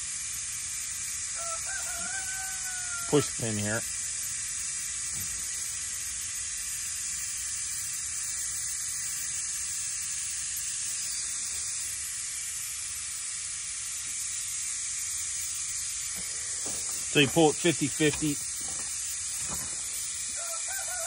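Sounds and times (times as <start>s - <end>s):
air hissing from tire: 0.0s - 21.0s.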